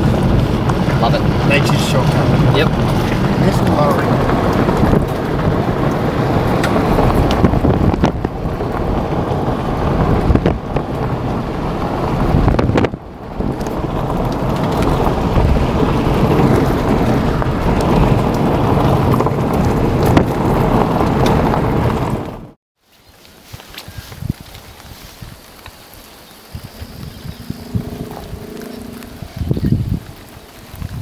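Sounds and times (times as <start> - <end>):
wind buffeting microphone: 0.0 - 22.6, 23.4 - 31.0
car road noise on dirt road: 0.0 - 31.0.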